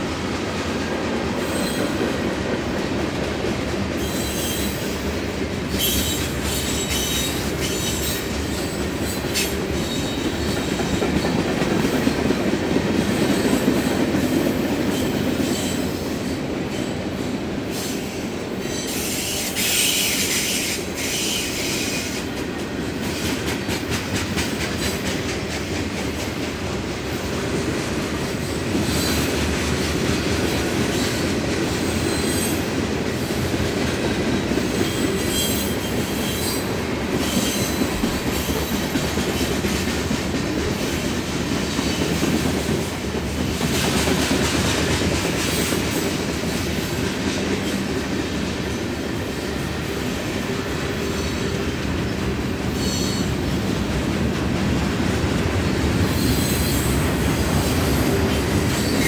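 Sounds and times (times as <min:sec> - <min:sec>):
clickety-clack over rail joints: 0:00.0 - 0:59.0
train wheels rumbling on rail: 0:00.0 - 0:59.0.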